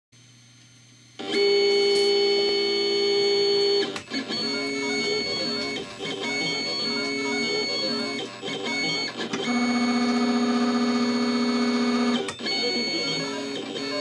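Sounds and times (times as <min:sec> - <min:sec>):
cutting machine motors whining: 0:01.2 - 0:14.0.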